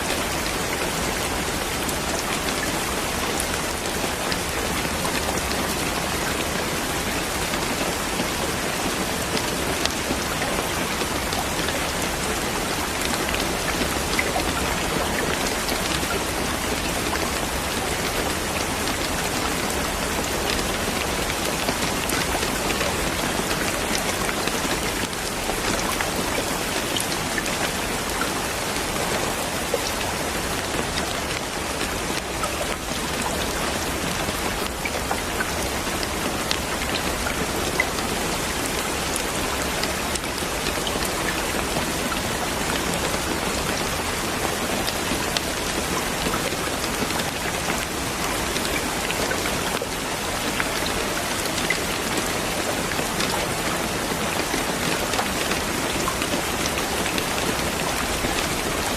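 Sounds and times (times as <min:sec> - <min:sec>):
rain pattering on a surface: 0:00.0 - 0:58.9.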